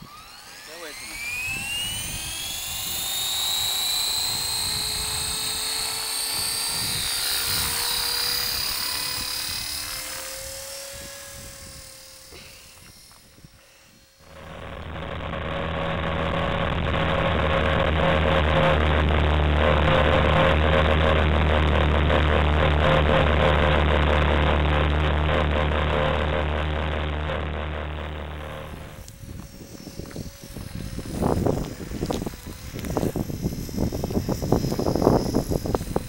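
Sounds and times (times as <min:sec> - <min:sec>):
muffled motor hum: 0:00.0 - 0:36.0
rc helicopter motor whine: 0:00.0 - 0:36.0
wind buffeting microphone: 0:01.3 - 0:12.1, 0:12.8 - 0:36.0.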